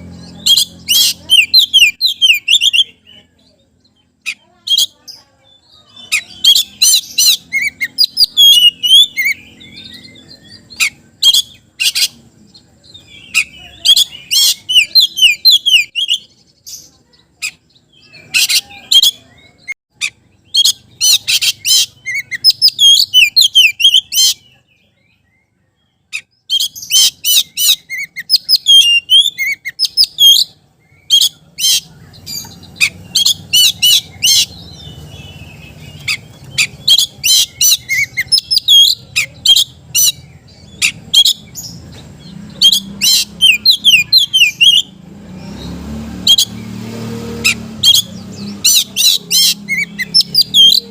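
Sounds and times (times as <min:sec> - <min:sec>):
songbird whistling and chattering: 0:00.0 - 0:50.9.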